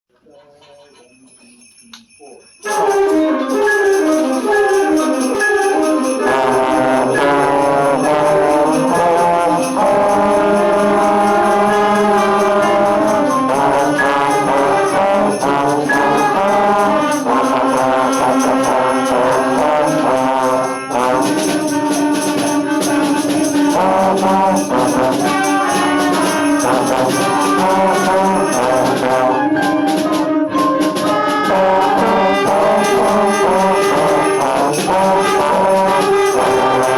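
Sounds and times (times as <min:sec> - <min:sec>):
jingling percussion: 0:00.3 - 0:36.9
band accompaniment: 0:02.6 - 0:36.9
trombone melody: 0:02.6 - 0:36.9.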